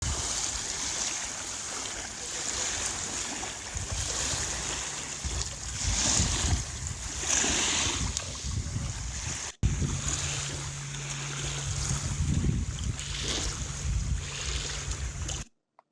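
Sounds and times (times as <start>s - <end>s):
ocean water sloshing: 0.0s - 15.5s
wind buffeting microphone: 2.5s - 15.4s.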